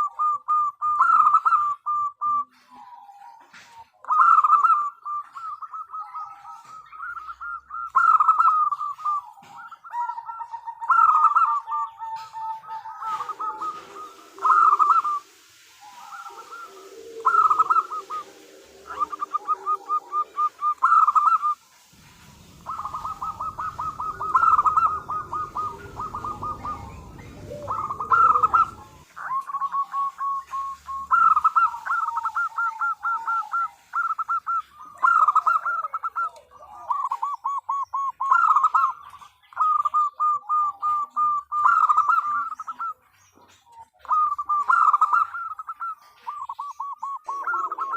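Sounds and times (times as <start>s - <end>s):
dove cooing trills: 0.0s - 47.9s.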